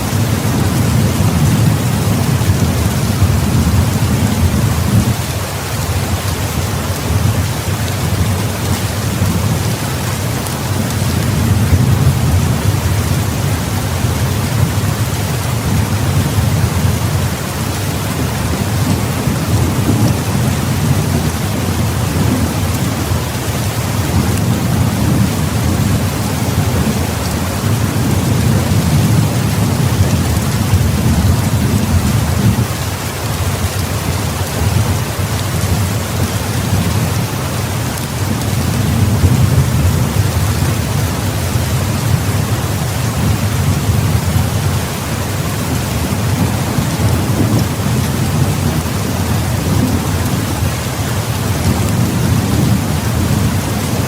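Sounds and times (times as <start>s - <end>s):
thunder rumbling: 0.0s - 33.0s, 33.7s - 54.0s
heavy rain pouring: 0.0s - 54.0s.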